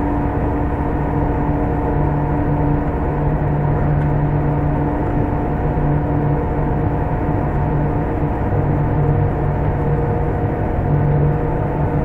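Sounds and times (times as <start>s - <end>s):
steady hum: 0.0s - 12.0s
train running rumble: 0.0s - 12.0s.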